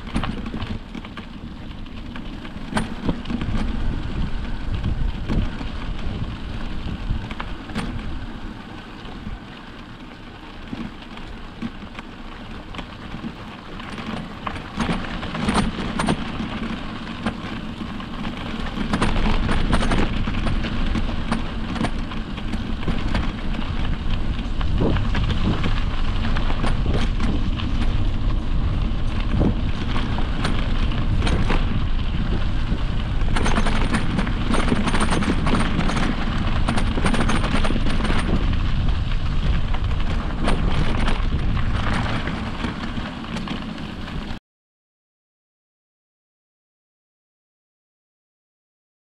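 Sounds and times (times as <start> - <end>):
bike knocking and rattling: 0.0 - 44.4
tyres crunching over dirt: 0.0 - 44.4
wind rumbling on microphone: 0.0 - 44.4.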